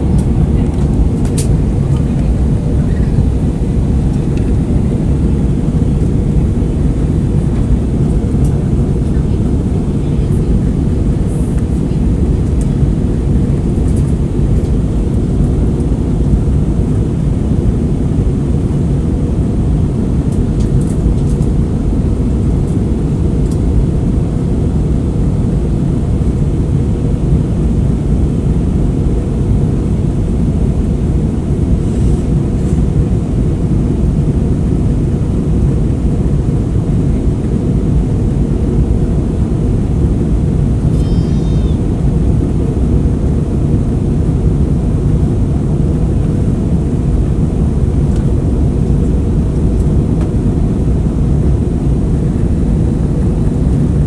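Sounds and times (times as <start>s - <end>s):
airliner engine rumble in cabin: 0.0s - 54.0s.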